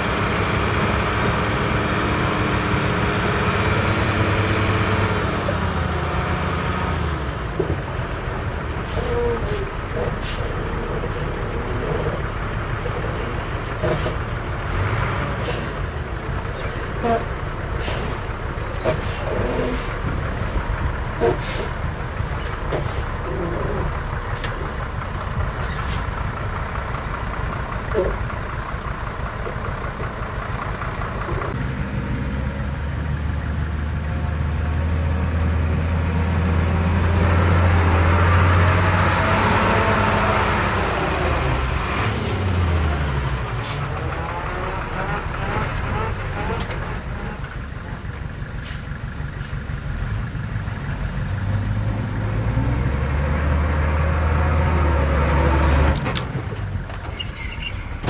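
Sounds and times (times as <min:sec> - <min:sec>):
diesel machine engine under load: 0:00.0 - 0:58.0.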